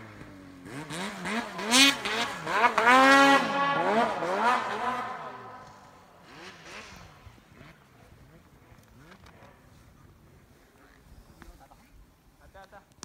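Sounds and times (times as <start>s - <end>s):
snowmobile engine revving: 0.0s - 11.6s.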